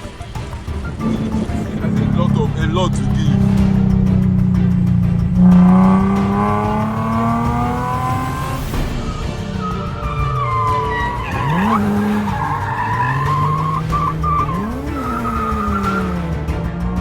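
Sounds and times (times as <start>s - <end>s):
car engine revving: 0.0s - 17.0s
tyres squealing: 0.0s - 17.0s.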